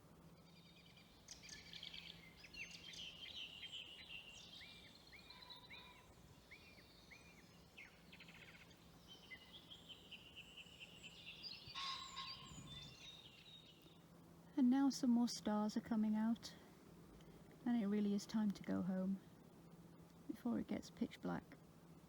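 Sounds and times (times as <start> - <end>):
faint songbird song: 0.0 - 22.0.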